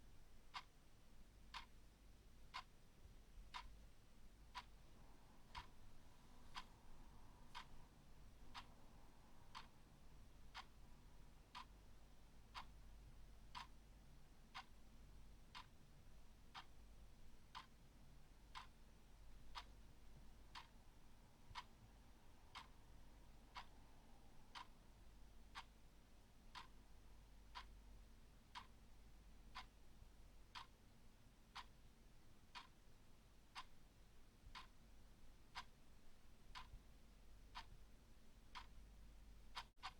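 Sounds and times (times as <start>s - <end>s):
clock ticking faintly: 0.0s - 39.9s.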